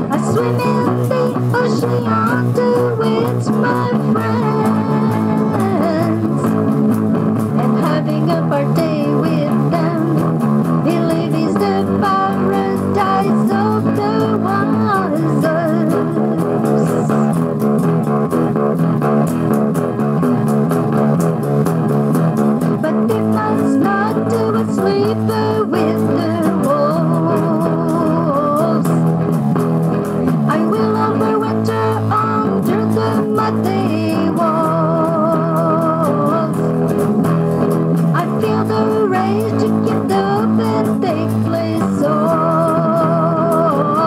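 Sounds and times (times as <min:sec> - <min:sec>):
bass guitar: 0:00.0 - 0:44.0
electric guitar: 0:00.0 - 0:44.0
rock blues song: 0:00.0 - 0:44.0.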